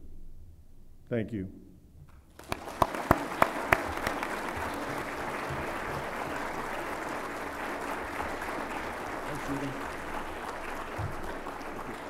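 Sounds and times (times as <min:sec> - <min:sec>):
audience applauding: 0:02.3 - 0:12.0
loud sharp claps: 0:02.3 - 0:12.0.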